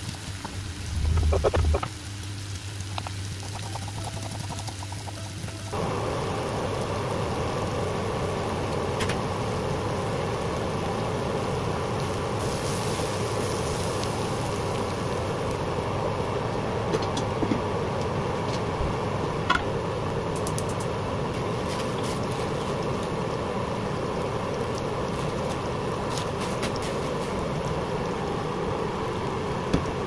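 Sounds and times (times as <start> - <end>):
gas hob rushing: 3.4 - 30.0.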